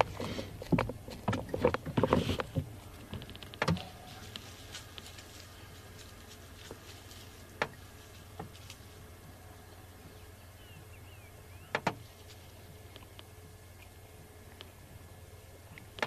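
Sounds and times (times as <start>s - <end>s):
vehicle engine at low revs: 0.0s - 16.0s.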